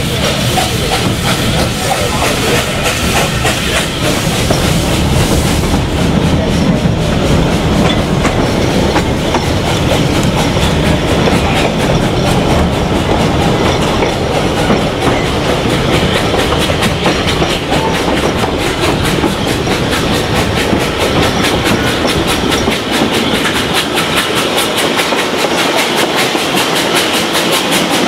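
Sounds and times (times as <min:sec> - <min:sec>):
hiss of steam: 0:00.0 - 0:28.0
rhythmic train clatter: 0:00.0 - 0:28.0.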